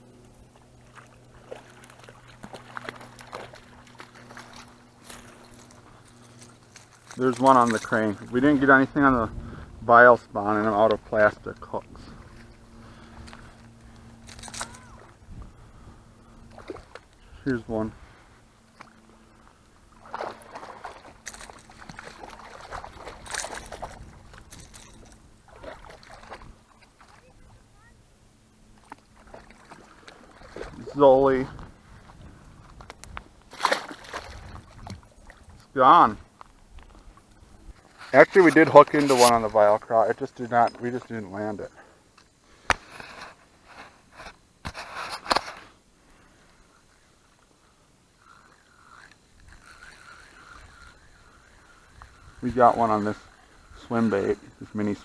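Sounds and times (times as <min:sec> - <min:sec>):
water splashing and sloshing: 0:00.0 - 0:28.0, 0:28.6 - 0:46.6
faint low hum: 0:00.0 - 0:55.0.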